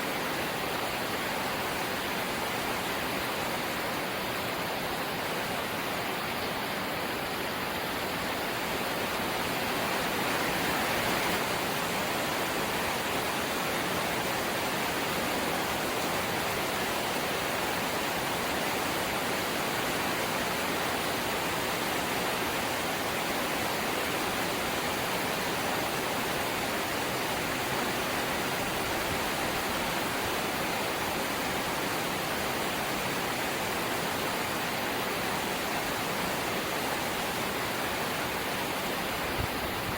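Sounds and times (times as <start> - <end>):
rain on a metal roof: 0.0 - 39.9.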